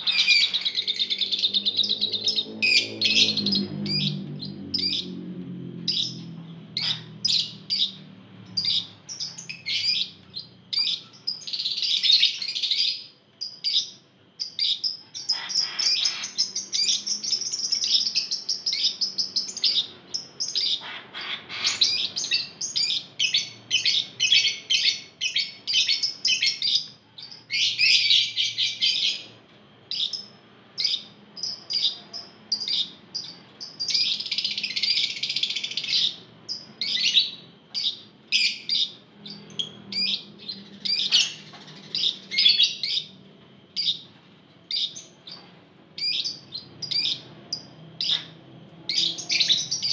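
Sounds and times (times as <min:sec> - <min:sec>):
lovebirds chirping and chattering: 0:00.0 - 0:49.9.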